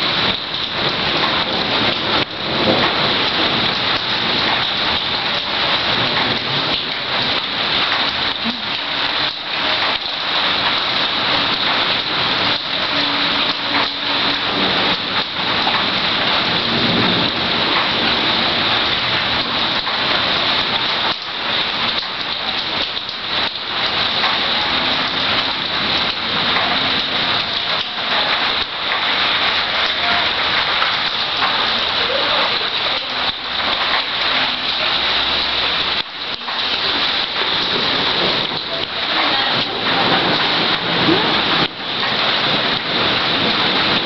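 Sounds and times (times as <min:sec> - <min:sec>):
rain falling: 0:00.0 - 0:44.0
thunder rumbling: 0:00.0 - 0:44.0.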